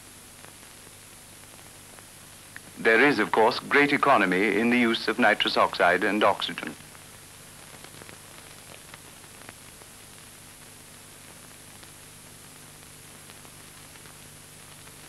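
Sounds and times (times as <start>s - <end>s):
film soundtrack hiss: 0.0s - 15.0s
low steady hum: 0.0s - 15.0s.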